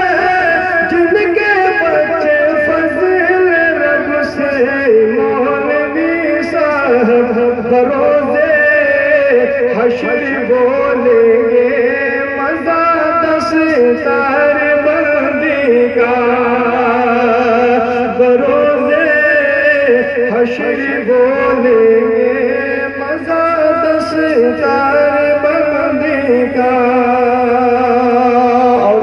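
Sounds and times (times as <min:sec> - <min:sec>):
man singing into a microphone: 0:00.0 - 0:29.0.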